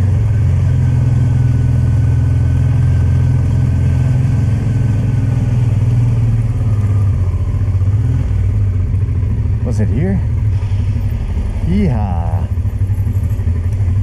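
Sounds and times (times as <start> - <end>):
motorcycle engine running at low revs: 0.0 - 14.0.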